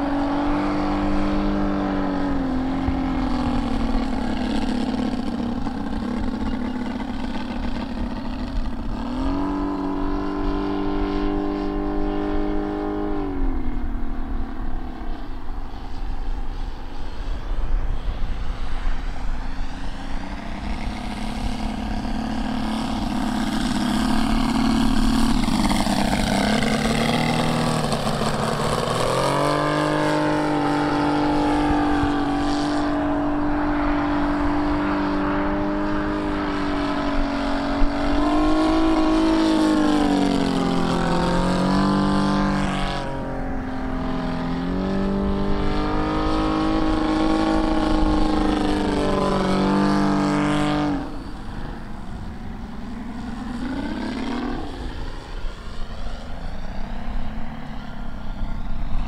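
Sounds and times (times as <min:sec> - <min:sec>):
model plane engine and propeller: 0:00.0 - 0:59.0.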